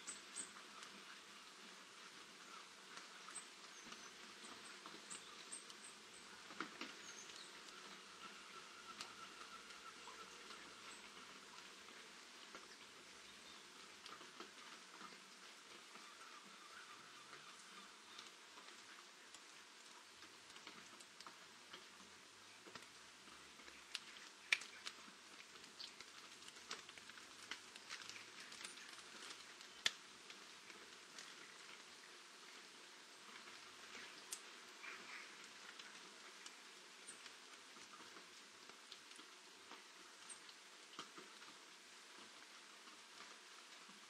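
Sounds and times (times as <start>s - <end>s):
small birds chirping: 0.0s - 20.8s, 22.3s - 38.1s
light rain pattering and dripping: 0.0s - 44.0s.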